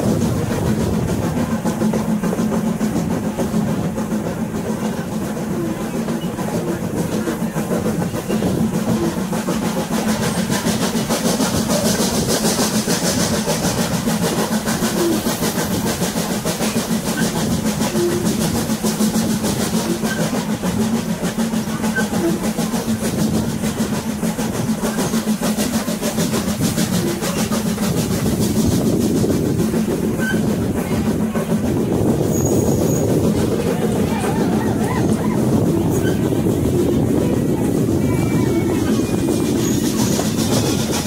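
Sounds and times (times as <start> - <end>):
train rolling rumble and rattle: 0.0 - 41.0.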